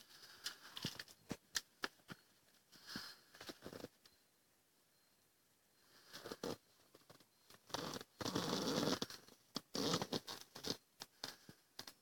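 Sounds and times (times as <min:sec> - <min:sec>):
rustling and scratching: 0:00.0 - 0:04.1, 0:06.0 - 0:12.0.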